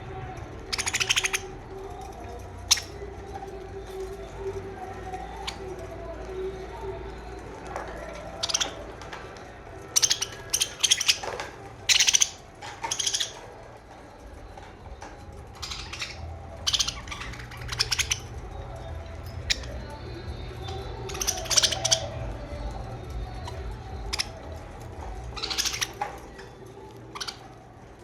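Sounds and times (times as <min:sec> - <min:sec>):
budgerigars chirping and chattering: 0:00.0 - 0:28.0.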